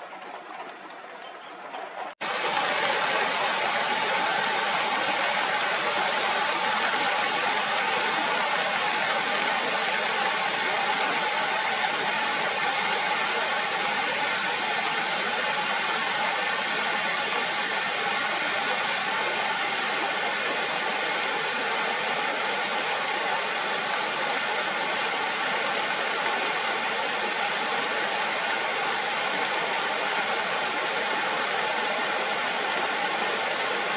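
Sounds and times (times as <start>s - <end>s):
waterfall rushing: 2.2s - 33.9s.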